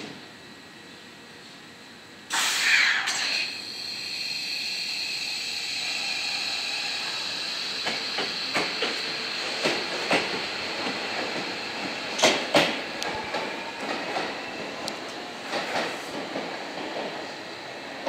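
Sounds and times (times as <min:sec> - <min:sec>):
electric train hissing: 0:02.3 - 0:18.0.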